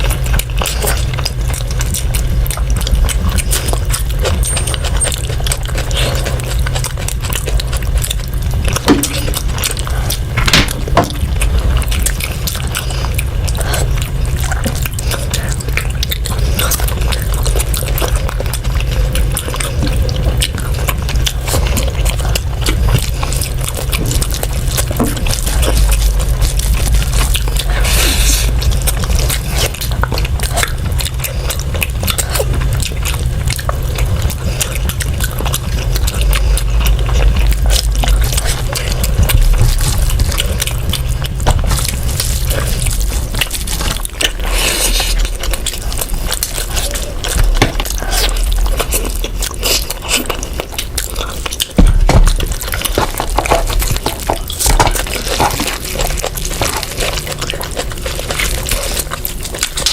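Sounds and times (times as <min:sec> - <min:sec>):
low hum: 0:00.0 - 0:59.9
wet chewing: 0:00.0 - 0:59.9.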